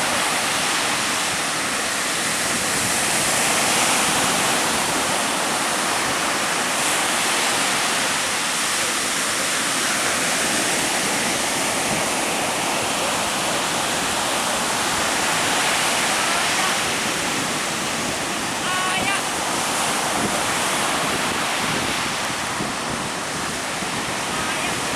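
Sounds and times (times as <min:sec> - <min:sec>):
rough sea surf roaring: 0:00.0 - 0:24.9
strong wind: 0:00.0 - 0:24.9.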